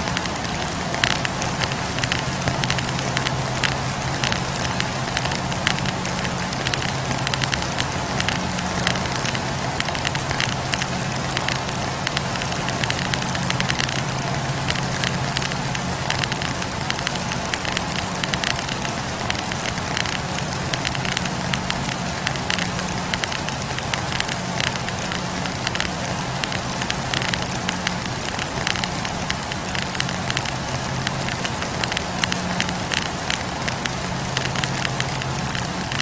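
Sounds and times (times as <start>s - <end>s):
logs crackling in campfire: 0.0s - 36.0s
steady hiss: 0.0s - 36.0s.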